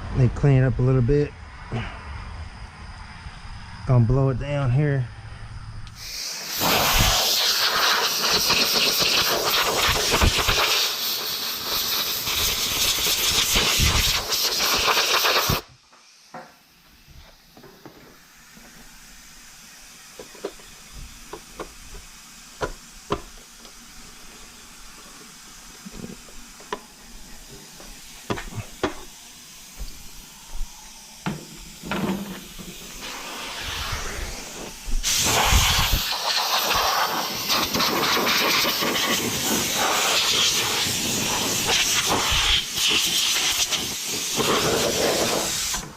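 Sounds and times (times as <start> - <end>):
compressed air blast: 5.9 - 16.3, 17.0 - 45.9.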